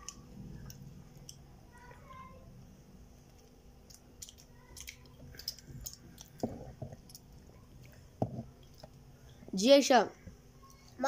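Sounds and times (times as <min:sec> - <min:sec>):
children chewing cake: 0:00.0 - 0:11.0.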